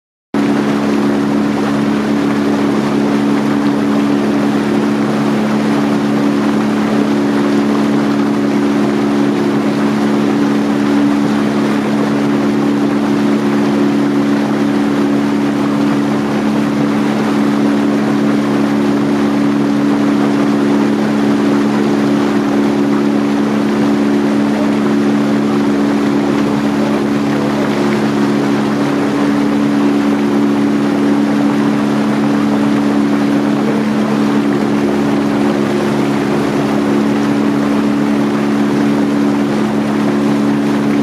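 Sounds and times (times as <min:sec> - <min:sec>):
boat motor humming: 0:00.4 - 0:41.0.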